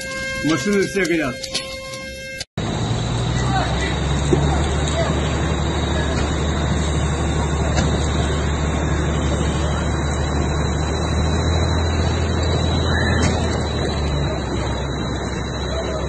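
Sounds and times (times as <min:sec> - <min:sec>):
engine rumble: 0:00.0 - 0:16.0
fire hose spraying water: 0:00.0 - 0:16.0.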